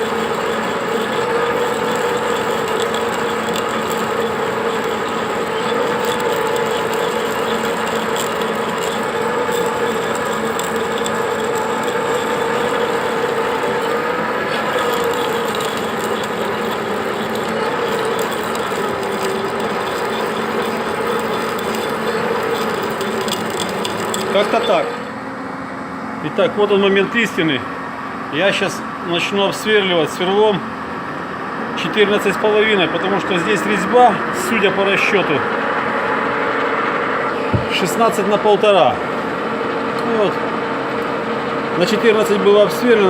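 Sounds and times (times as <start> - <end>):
drill boring into metal: 0.0 - 25.3, 31.8 - 43.0
lathe whining: 0.0 - 43.0.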